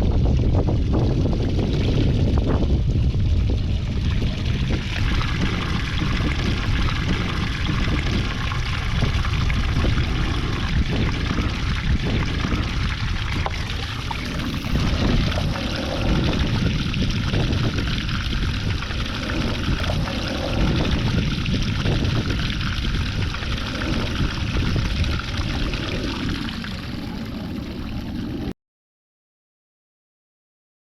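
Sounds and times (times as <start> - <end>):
water pouring and running: 0.0 - 28.5.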